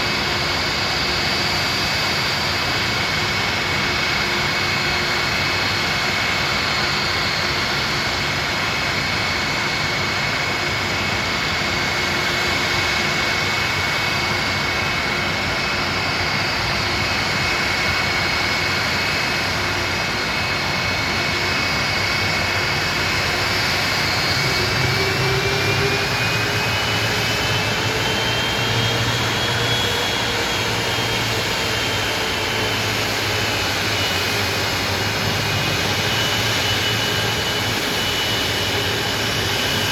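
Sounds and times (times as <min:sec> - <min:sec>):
high turbine whine: 0:00.0 - 0:39.9
jet engines roaring: 0:00.0 - 0:39.9.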